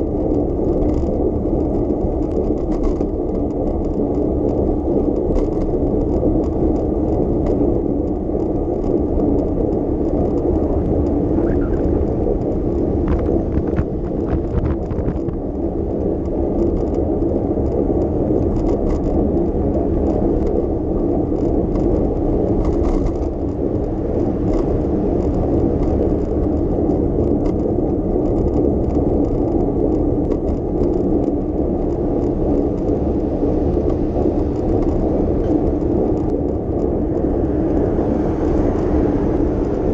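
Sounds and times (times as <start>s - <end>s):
bicycle tyre road noise: 0.0s - 39.9s
bike rattles and clicks: 0.0s - 39.9s.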